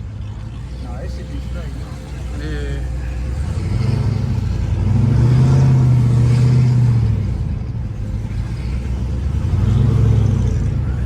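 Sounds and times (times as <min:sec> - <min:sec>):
car engine revving then idling: 0:00.5 - 0:11.0.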